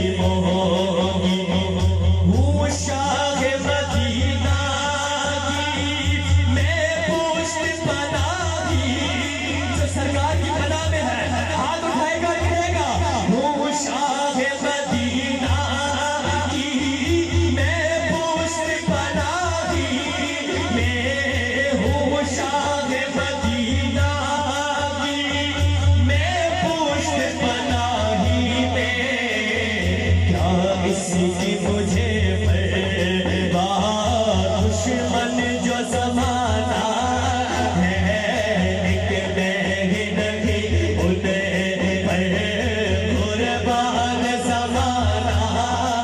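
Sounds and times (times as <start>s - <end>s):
man singing through sound system: 0.0s - 46.0s.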